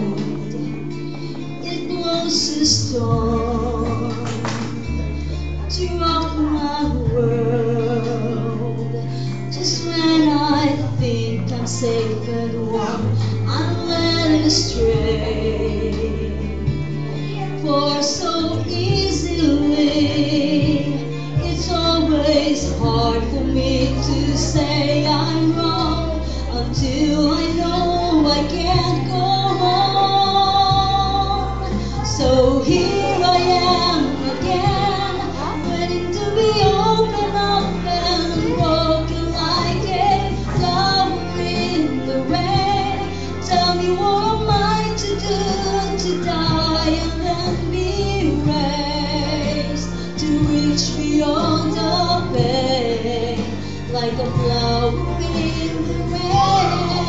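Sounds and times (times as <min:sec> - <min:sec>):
instrumental accompaniment: 0:00.0 - 0:57.0
sustained bass line: 0:00.0 - 0:57.0
woman singing: 0:00.0 - 0:57.0.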